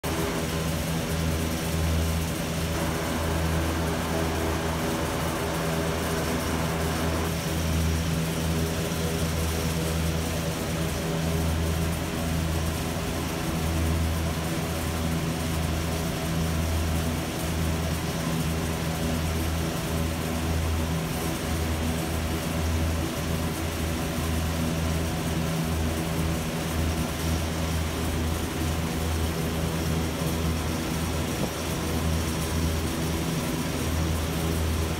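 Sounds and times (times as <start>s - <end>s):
industrial machinery humming: 0.0s - 34.9s.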